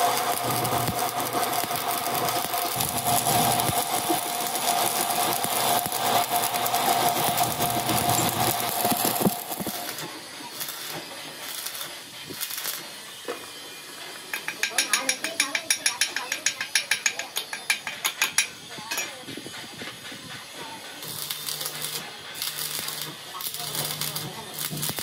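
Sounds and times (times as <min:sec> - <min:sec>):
welding arc crackling and sizzling: 0:00.0 - 0:19.3, 0:20.4 - 0:25.0.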